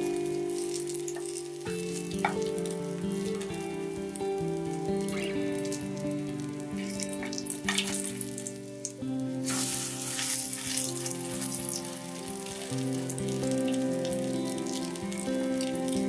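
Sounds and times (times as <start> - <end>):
crackles: 0.0 - 16.0
patties sizzling in oil: 0.0 - 16.0.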